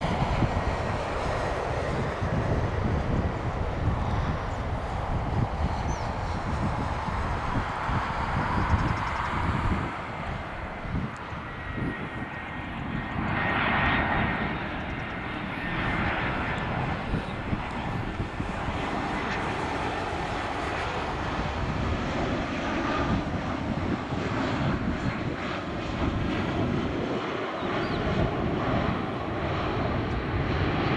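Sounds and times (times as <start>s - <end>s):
jet engines rumbling: 0.0s - 30.9s.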